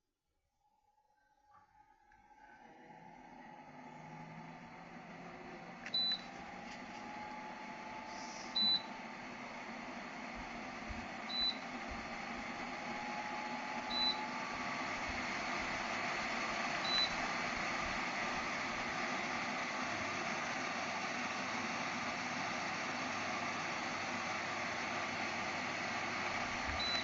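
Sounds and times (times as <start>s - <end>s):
fan air noise: 3.7s - 27.0s.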